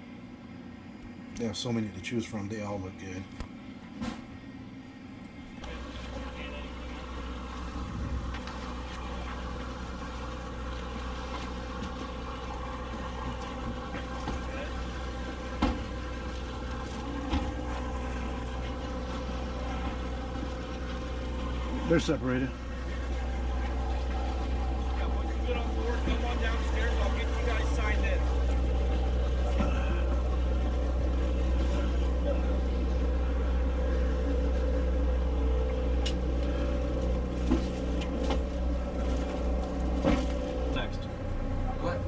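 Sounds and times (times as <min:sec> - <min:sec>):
boat engine idling: 0:00.0 - 0:42.0.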